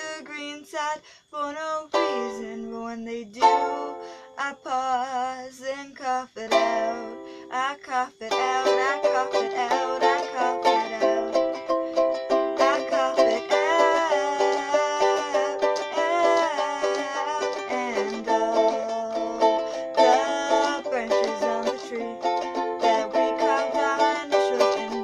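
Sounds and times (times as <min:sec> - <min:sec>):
person singing: 0:00.0 - 0:25.0
ukulele strumming chords: 0:01.9 - 0:04.2, 0:06.5 - 0:07.4, 0:08.2 - 0:25.0.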